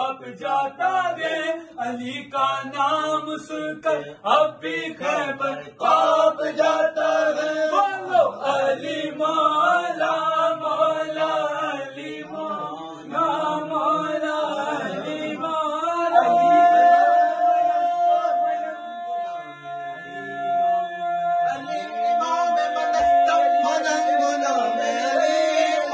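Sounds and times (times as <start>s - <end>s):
men chanting devotional song: 0.0s - 25.9s.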